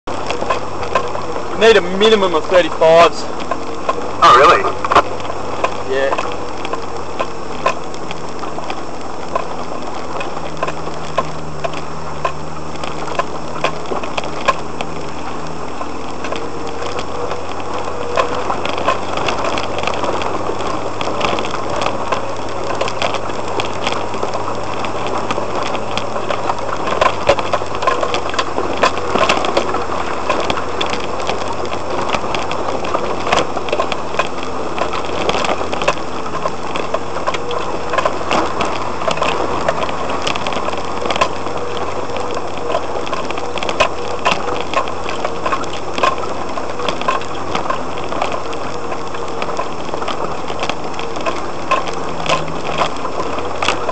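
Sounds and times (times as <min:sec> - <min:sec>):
vehicle engine running: 0:00.0 - 0:53.9
stones knocking under tyres: 0:00.2 - 0:53.9.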